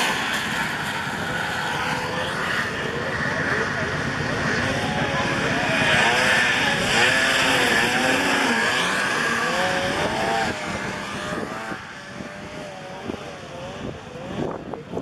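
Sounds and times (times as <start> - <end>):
snowmobile engines revving: 0.0 - 15.0.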